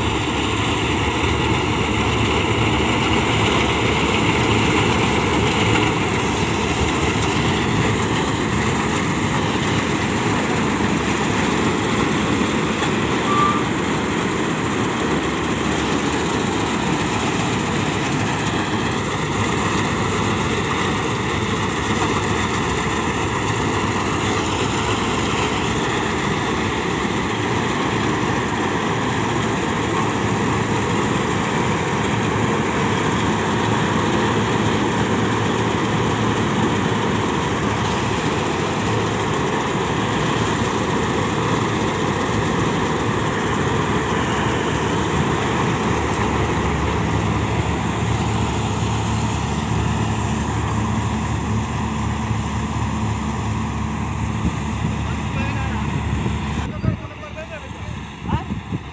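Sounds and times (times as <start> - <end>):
combine harvester running: 0.0 - 58.9.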